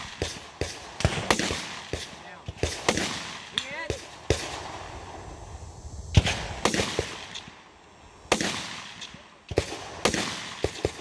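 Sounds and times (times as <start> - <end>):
rifle shots: 0.0 - 4.8, 6.2 - 7.6, 8.3 - 11.0.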